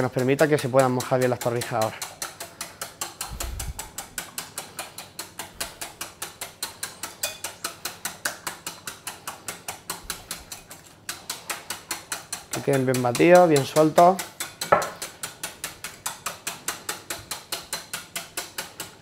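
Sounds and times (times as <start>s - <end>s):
whisk clicking against bowl: 0.0s - 19.0s.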